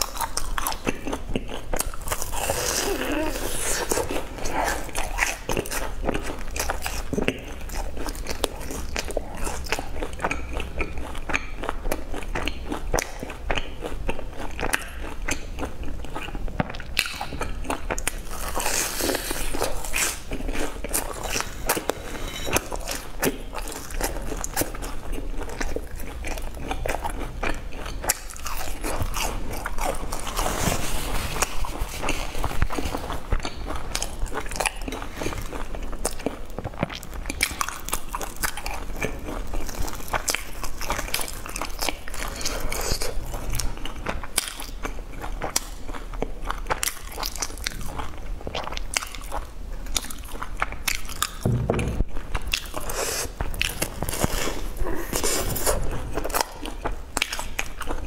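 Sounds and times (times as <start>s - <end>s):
wet chewing: 0.0s - 51.6s, 52.2s - 58.0s.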